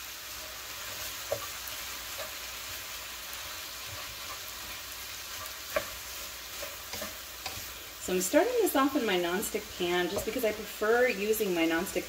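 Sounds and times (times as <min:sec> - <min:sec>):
meat and onions sizzling in a pan: 0:00.0 - 0:12.0.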